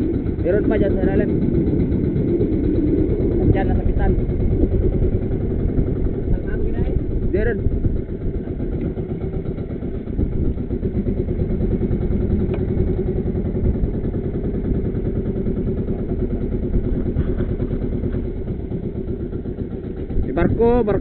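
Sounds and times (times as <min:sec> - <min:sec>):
boat engine idling: 0:00.0 - 0:21.0.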